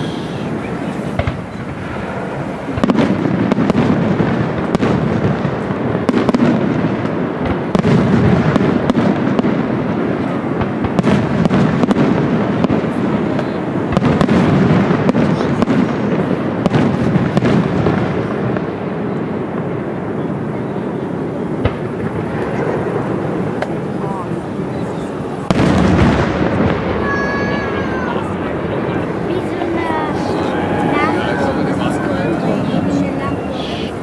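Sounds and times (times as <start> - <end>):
fireworks bursting with sharp bangs: 0.0 - 34.0.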